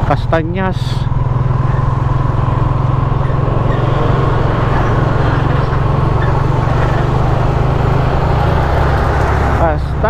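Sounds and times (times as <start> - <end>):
road and wind noise: 0.0 - 10.0
vehicle engine drone: 0.0 - 10.0.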